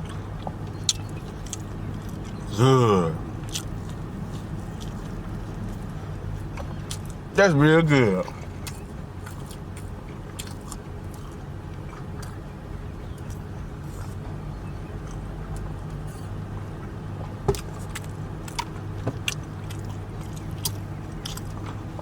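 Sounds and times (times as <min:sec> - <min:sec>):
chewing and biting: 0:00.0 - 0:02.6, 0:03.2 - 0:07.2, 0:08.3 - 0:12.5, 0:15.0 - 0:22.0
vehicle engine idling: 0:00.0 - 0:22.0.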